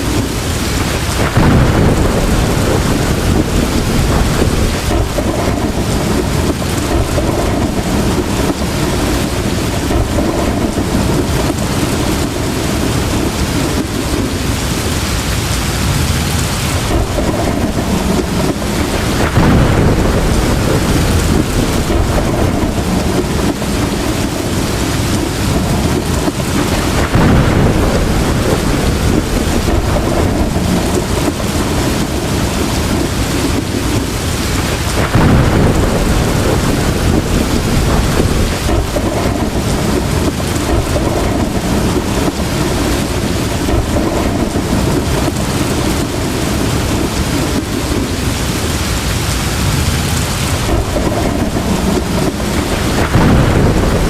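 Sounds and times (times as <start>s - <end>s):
heavy rain pouring: 0.0s - 54.0s
thunder rumbling: 0.0s - 54.0s.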